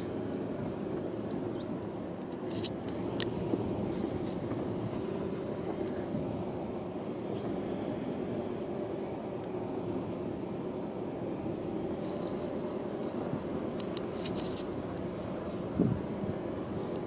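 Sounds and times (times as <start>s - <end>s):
vehicle engine and tyres droning: 0.0s - 17.0s.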